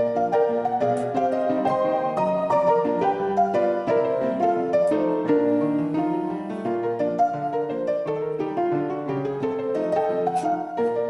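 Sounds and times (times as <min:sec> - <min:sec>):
light harp and piano melody: 0:00.0 - 0:11.0.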